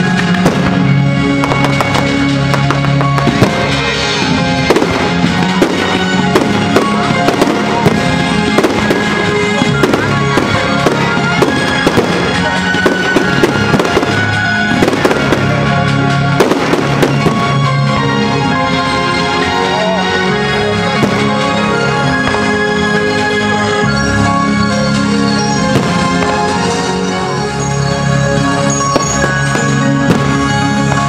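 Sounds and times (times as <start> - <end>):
fireworks bursting: 0.0 - 31.0
music playing: 0.0 - 31.0.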